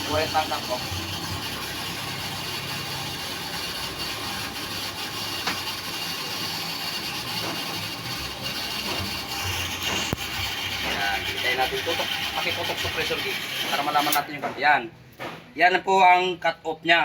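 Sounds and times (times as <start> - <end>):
electric water pump running: 0.0 - 14.3.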